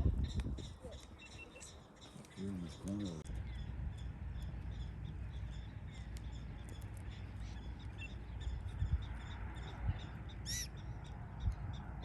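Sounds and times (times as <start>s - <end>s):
wind rumble on microphone: 0.0s - 1.8s, 3.3s - 12.0s
prairie dogs chirping: 0.0s - 12.0s.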